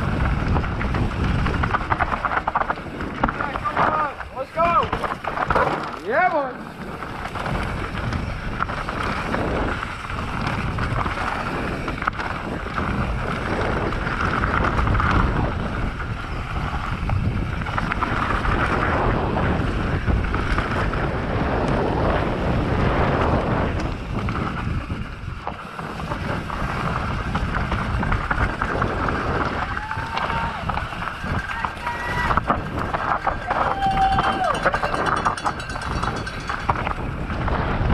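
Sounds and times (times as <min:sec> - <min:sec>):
bike tyres and frame rattling: 0:00.0 - 0:37.9
wind rushing over microphone: 0:00.0 - 0:37.9.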